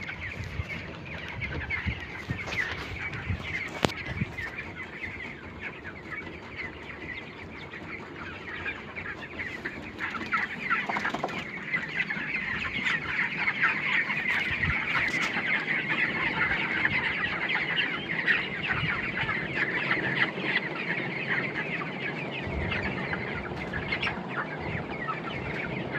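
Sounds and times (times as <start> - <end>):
flock of chickens chirping and clucking: 0.0 - 25.9.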